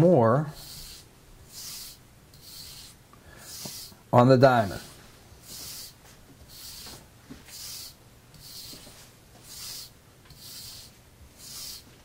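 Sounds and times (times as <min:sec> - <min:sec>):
razor swishing on strop: 0:00.5 - 0:04.0, 0:04.7 - 0:12.0.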